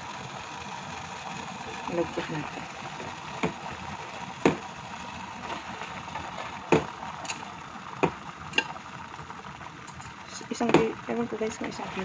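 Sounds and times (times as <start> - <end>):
coconut milk boiling: 0.0 - 12.0.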